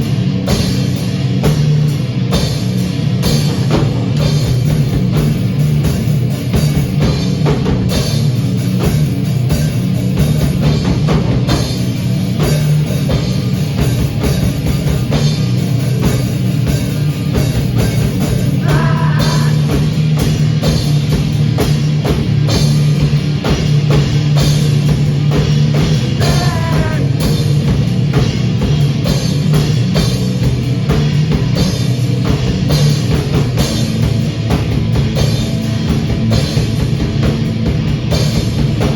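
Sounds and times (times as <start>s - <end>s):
drum kit playing: 0.0s - 38.9s.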